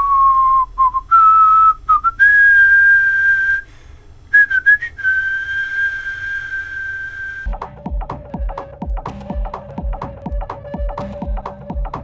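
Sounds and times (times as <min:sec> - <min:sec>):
person whistling long notes: 0:00.0 - 0:07.6, 0:08.2 - 0:12.0.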